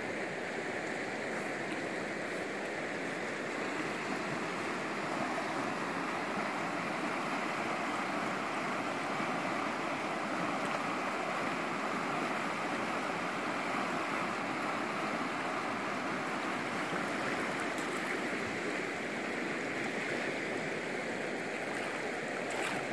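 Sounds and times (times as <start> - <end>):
river rushing over rocks: 0.0 - 22.9.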